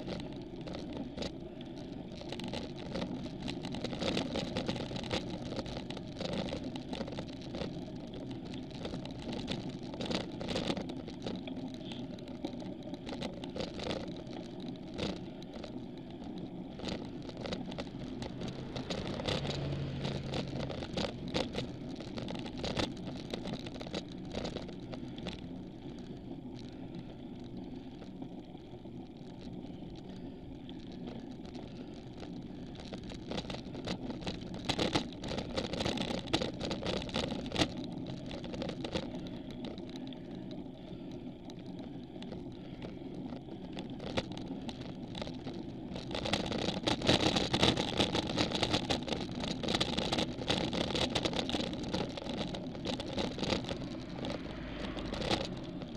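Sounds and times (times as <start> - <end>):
bicycle tyre and road noise: 0.0 - 55.9.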